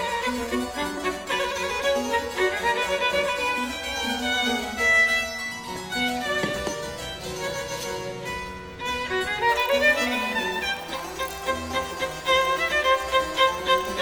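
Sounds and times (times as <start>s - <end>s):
fiddle music with plucked strings: 0.0s - 14.0s.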